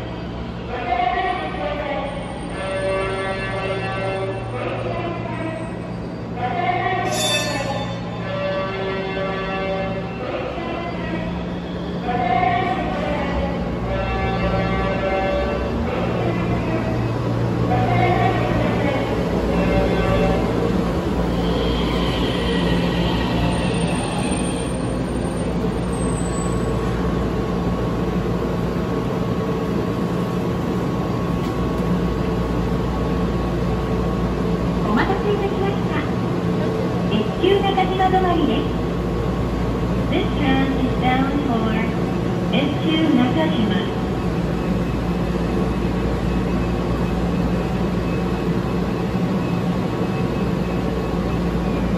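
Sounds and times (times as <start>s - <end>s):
tram humming: 0.0s - 51.9s.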